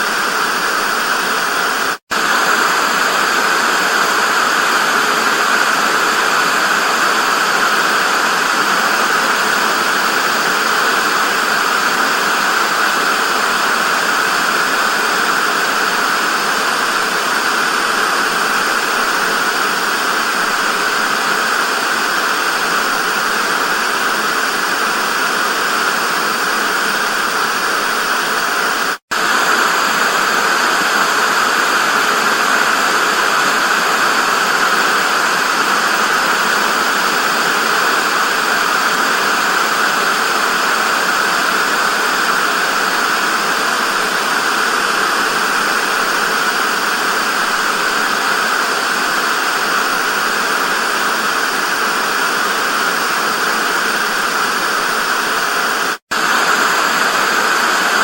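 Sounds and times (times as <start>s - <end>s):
tv static hiss: 0.0s - 58.0s.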